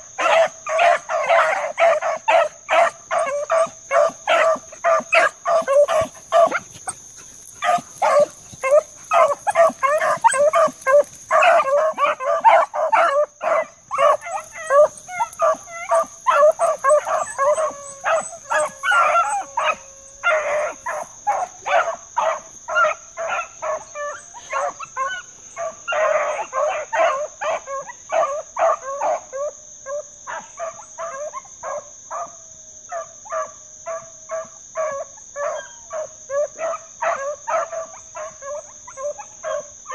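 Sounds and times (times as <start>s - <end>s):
hounds barking and bawling: 0.0s - 39.9s.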